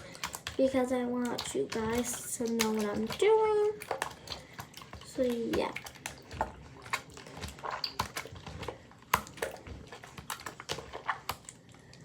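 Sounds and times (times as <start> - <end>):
wet slime squeezed by hand: 1.2 - 11.7.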